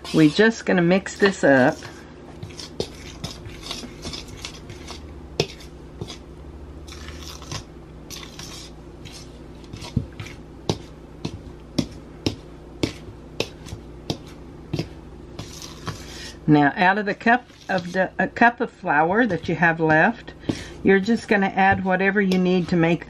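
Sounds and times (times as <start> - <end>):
fork scraping dough in bowl: 0.0 - 16.4, 17.1 - 18.1, 18.8 - 23.0.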